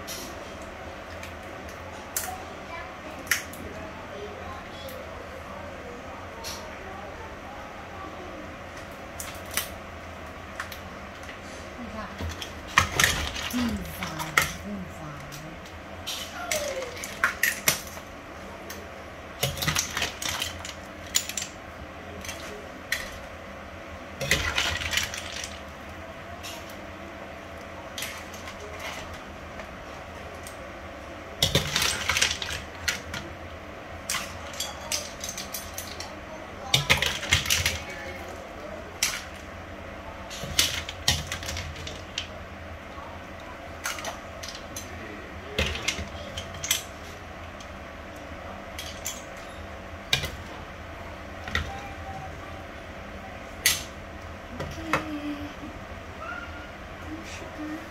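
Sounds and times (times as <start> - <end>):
steady background hum: 0.0 - 57.9.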